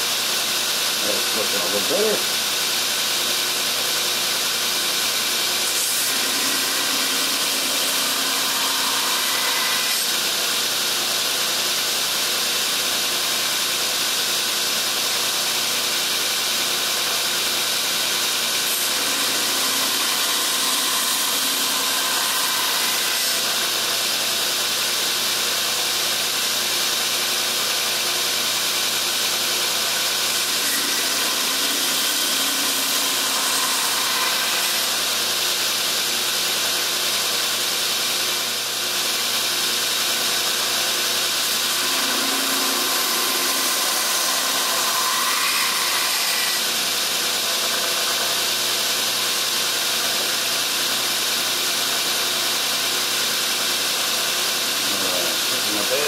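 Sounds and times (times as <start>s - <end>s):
grinder machine hum: 0.0s - 56.0s.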